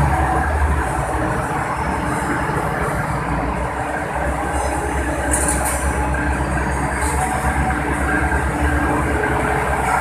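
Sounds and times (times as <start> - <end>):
train coaches rolling past: 0.0 - 10.0.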